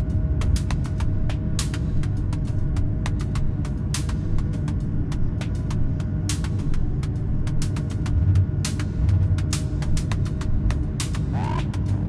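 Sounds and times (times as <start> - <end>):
airplane cabin low rumble: 0.0 - 12.0
music: 0.0 - 12.0.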